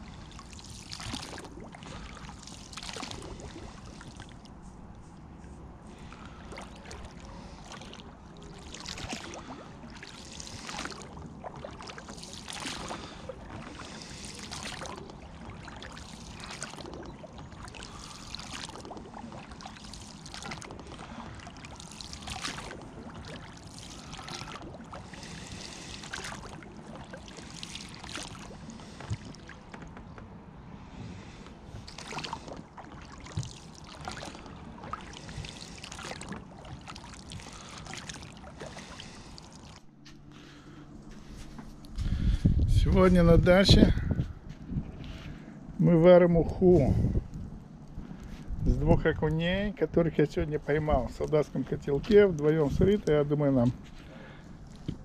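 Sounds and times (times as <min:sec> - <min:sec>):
oars splashing through water: 0:00.0 - 0:42.5, 0:50.2 - 0:55.0.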